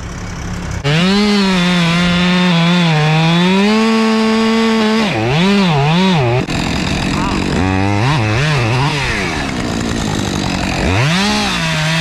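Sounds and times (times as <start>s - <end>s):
chainsaw cutting log: 0.8s - 12.0s.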